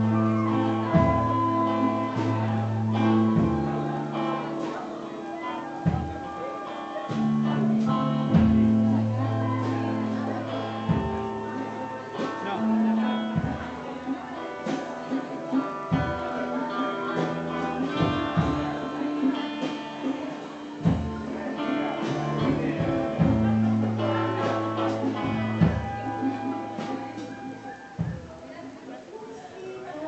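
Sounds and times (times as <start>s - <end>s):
music with guitar and beat: 0.0s - 28.8s.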